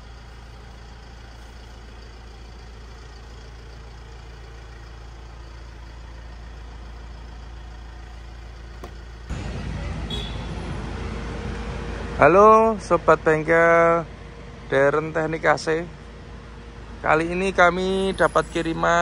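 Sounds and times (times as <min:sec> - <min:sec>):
engine idling hum: 0:00.0 - 0:19.0
noisy outdoor background: 0:00.0 - 0:19.0.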